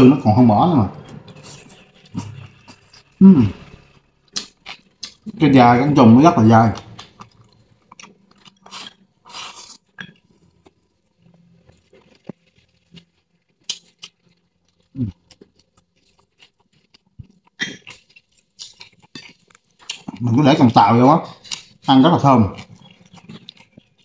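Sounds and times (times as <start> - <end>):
person chewing: 0.9 - 5.5, 6.7 - 24.0.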